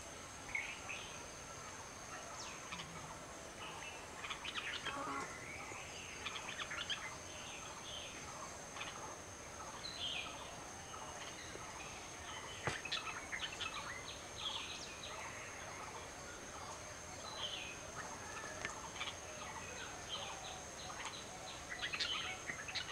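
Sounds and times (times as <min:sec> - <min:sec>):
bird chirping: 0:02.3 - 0:22.9.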